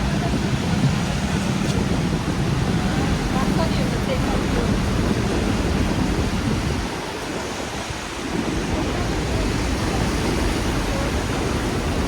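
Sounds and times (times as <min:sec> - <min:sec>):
heavy rain on a street: 0:00.0 - 0:12.0.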